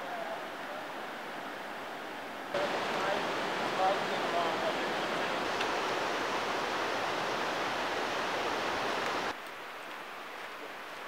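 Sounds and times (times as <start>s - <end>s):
creek white water rushing: 0.0s - 11.0s.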